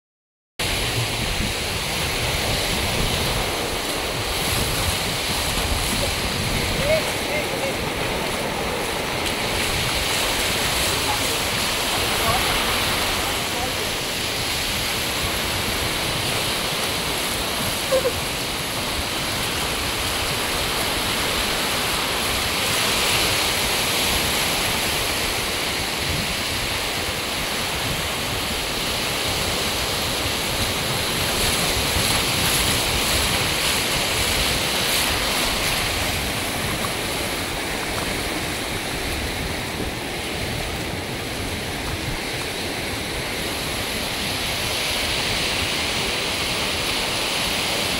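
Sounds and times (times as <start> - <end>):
surf washing up beach: 0.6 - 47.9
wind rumble on microphone: 0.6 - 47.9.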